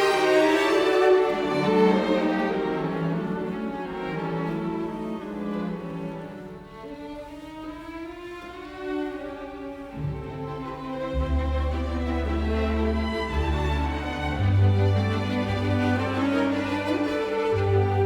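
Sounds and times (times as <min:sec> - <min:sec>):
violin and cello music: 0:00.0 - 0:18.0.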